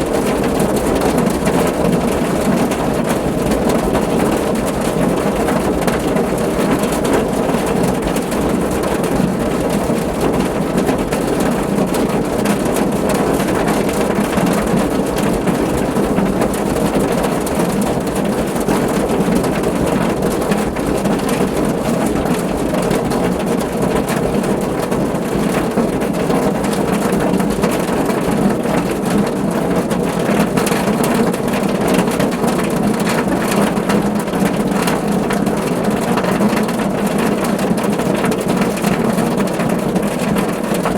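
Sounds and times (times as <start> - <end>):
rain drumming on car roof: 0.0 - 40.9.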